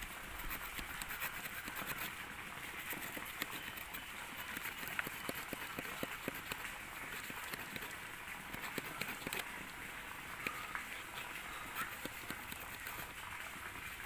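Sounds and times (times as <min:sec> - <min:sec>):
hand saw cutting branch: 0:00.0 - 0:09.6, 0:10.2 - 0:13.3.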